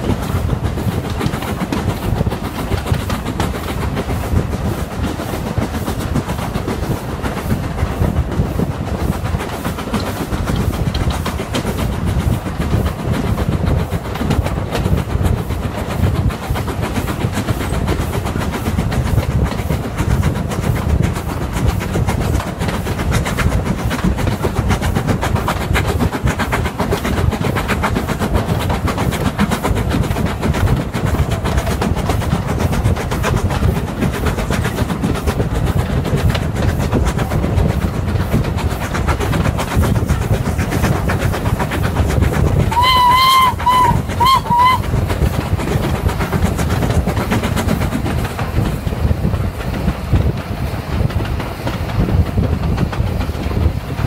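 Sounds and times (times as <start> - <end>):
steam locomotive chuffing: 0.0 - 54.0
wheels clattering over rails: 0.0 - 54.0
wind rumble: 0.0 - 54.0.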